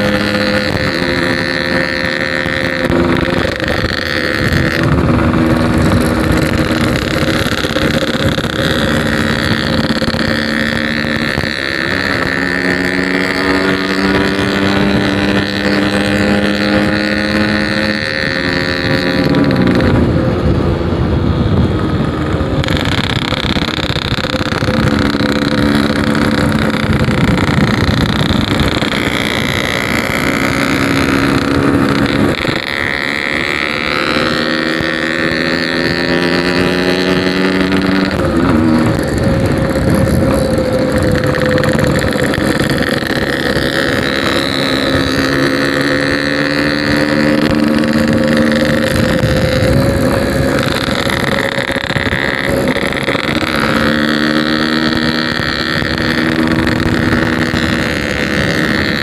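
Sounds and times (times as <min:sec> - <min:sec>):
motorcycle engine revving: 0:00.0 - 0:59.0
wind on microphone: 0:00.0 - 0:59.0.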